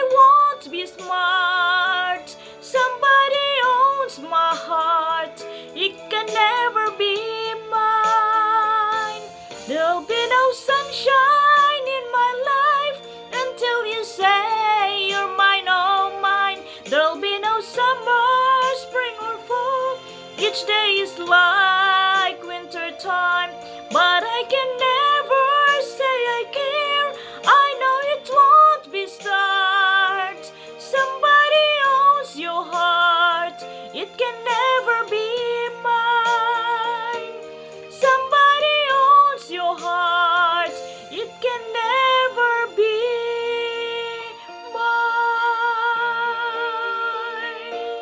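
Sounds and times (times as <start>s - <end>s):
music accompaniment: 0.0s - 48.0s
woman singing a slow ballad: 0.0s - 48.0s.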